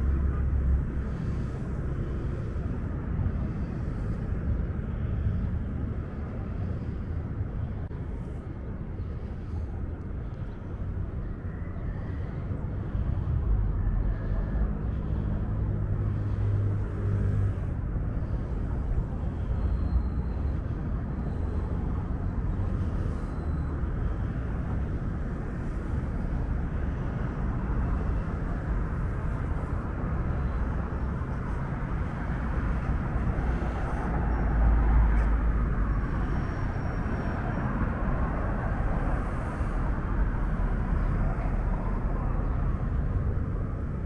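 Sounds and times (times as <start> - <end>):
vehicle engines passing: 0.0 - 44.0.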